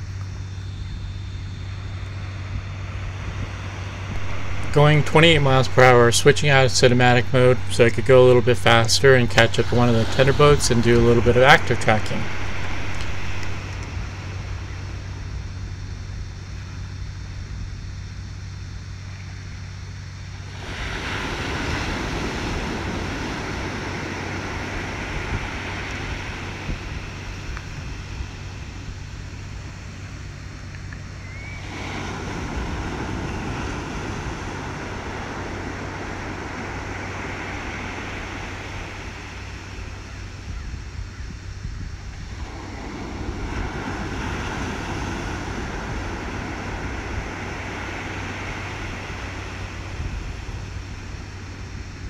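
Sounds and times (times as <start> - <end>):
wind over microphone: 0.0 - 18.7, 20.4 - 29.8, 31.6 - 52.0
steady low hum: 0.0 - 52.0
surf: 1.6 - 16.6, 19.8 - 52.0.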